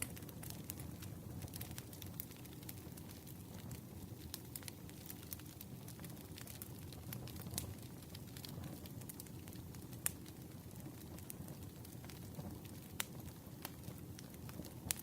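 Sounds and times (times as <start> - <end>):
burning logs crackling and popping: 0.0 - 15.0
campfire flames fluttering: 0.0 - 15.0.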